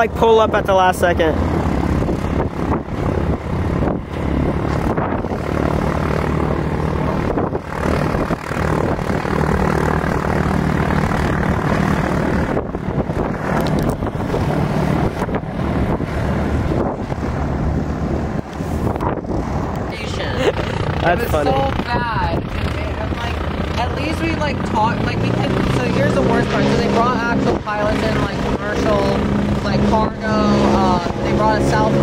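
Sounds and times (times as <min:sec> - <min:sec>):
propeller plane engine droning: 0:00.0 - 0:32.0.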